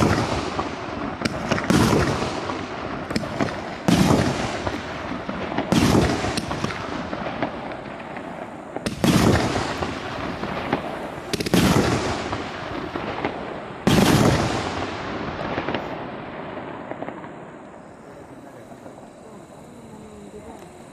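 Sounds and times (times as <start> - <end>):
fireworks bangs: 0.0 - 20.9
fireworks crackling: 0.0 - 20.9.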